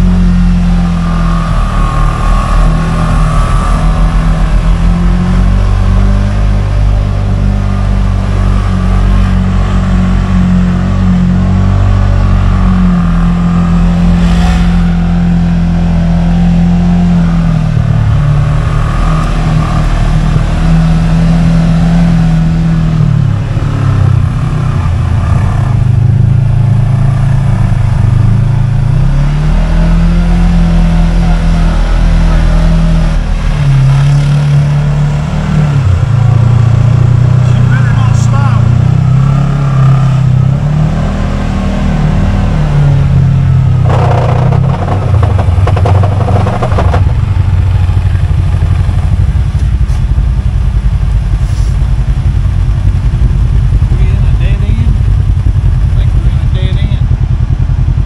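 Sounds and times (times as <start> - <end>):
off-road vehicle engine under load: 0.0 - 58.0.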